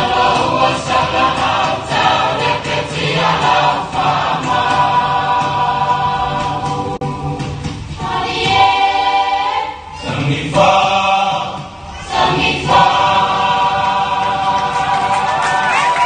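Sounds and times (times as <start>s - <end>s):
group singing to music: 0.0s - 16.0s.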